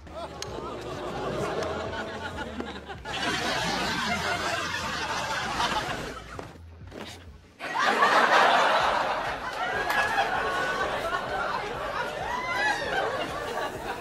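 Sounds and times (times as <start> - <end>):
studio audience laughing: 0.0 - 6.4, 7.6 - 14.0.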